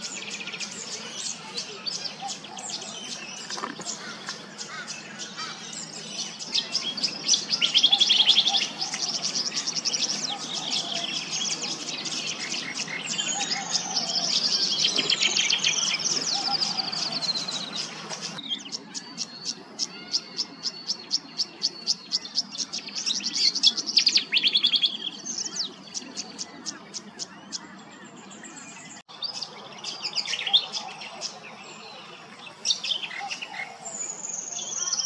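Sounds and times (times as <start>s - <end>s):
bird singing rapid twittering: 0.0s - 35.0s.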